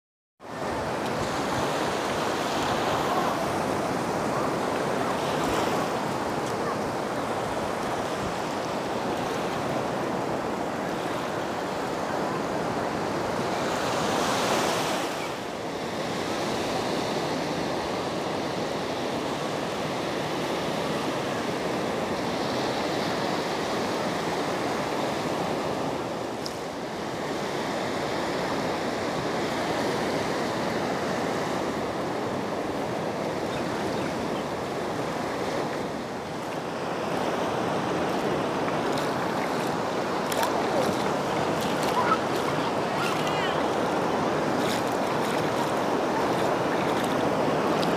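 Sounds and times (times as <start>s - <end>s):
sea waves breaking on beach: 0.4s - 47.9s.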